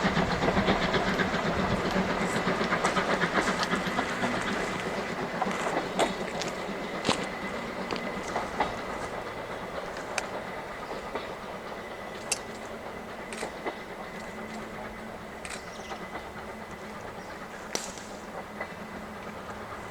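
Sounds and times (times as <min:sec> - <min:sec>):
steam train rolling past: 0:00.0 - 0:19.9
wheels clicking over rail joints: 0:00.0 - 0:19.9.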